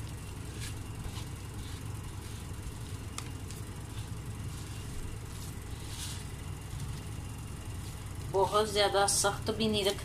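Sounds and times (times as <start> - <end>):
hands mixing dough in bowl: 0.0 - 10.0
low motor-like hum: 0.0 - 10.0.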